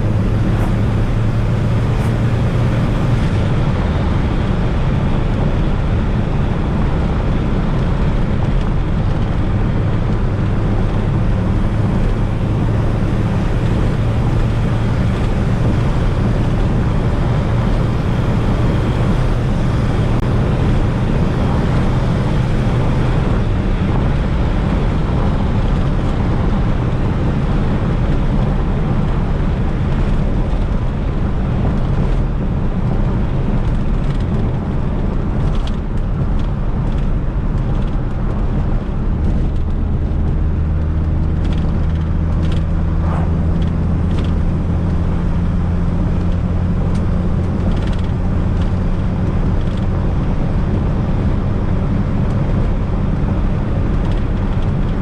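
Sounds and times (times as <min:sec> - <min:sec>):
car engine droning: 0:00.0 - 0:55.0
road noise: 0:00.0 - 0:55.0.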